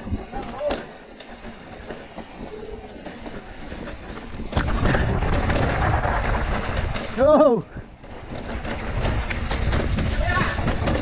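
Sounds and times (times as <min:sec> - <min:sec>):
bike rattling: 0:00.0 - 0:11.0
bike tyres rumbling over dirt: 0:00.0 - 0:11.0.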